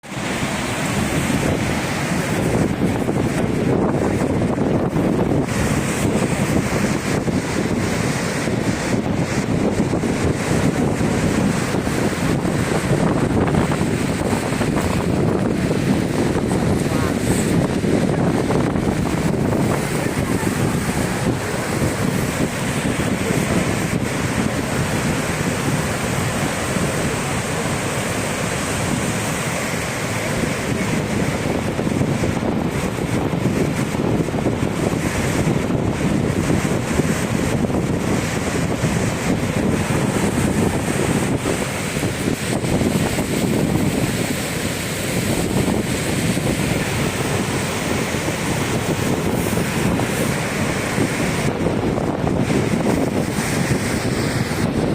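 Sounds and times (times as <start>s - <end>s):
waterfall roaring: 0.0s - 54.9s
wind buffeting microphone: 0.0s - 54.9s.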